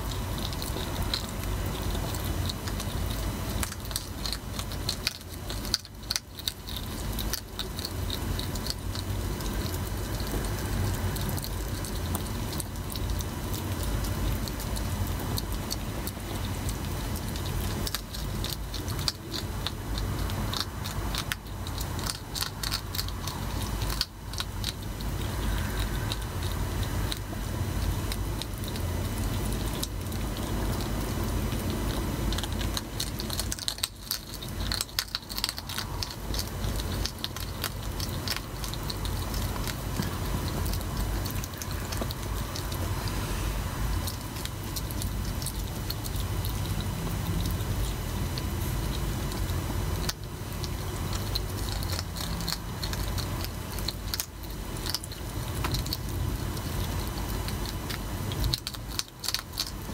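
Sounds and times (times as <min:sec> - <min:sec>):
hedgehogs chewing dry food: 0:00.0 - 0:59.9.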